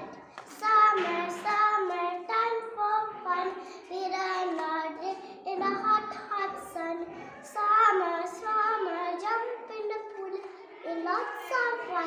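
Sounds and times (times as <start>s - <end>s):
girl singing: 0.0s - 12.0s.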